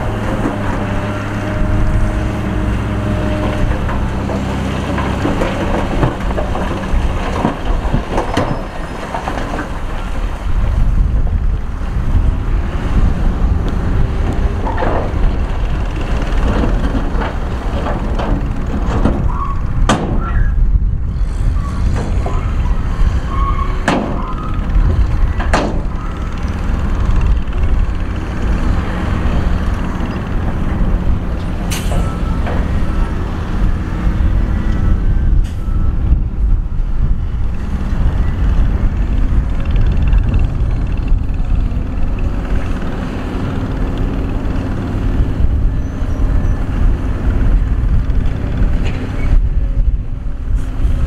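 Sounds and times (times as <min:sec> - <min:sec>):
heavy diesel machinery rumbling: 0:00.0 - 0:51.0.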